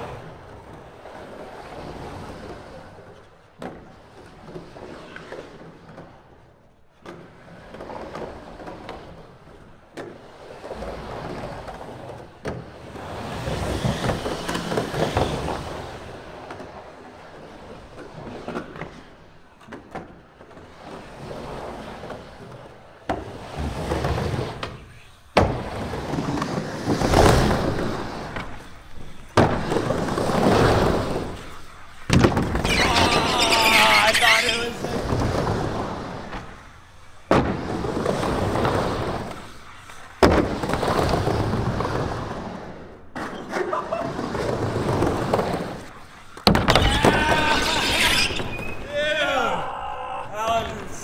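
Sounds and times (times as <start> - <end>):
skateboard clacks: 0.0 - 49.2
skateboard wheels rolling: 0.0 - 51.0.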